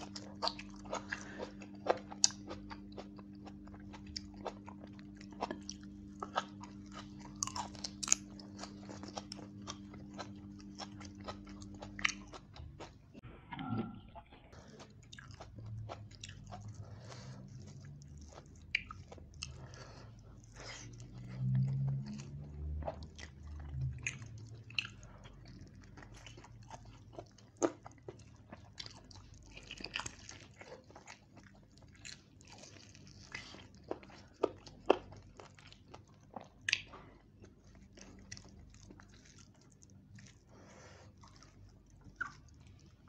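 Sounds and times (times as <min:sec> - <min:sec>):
person chewing food: 0:00.0 - 0:43.0.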